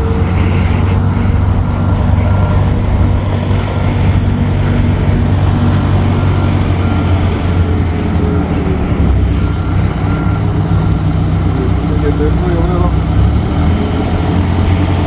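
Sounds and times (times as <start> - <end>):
large vehicle engine humming: 0.0 - 15.0.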